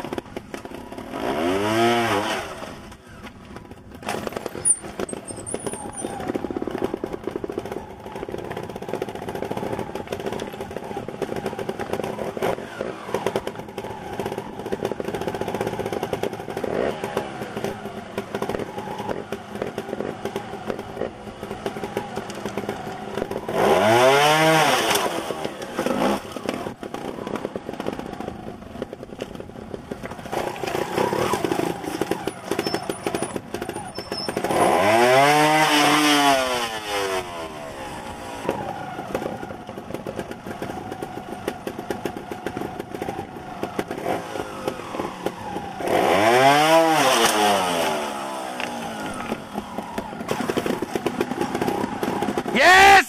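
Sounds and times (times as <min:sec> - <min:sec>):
motorcycle engine revving: 0:00.0 - 0:53.0
motorcycle engine idling unevenly: 0:02.5 - 0:23.9, 0:25.2 - 0:34.7, 0:37.2 - 0:45.9, 0:48.0 - 0:52.6.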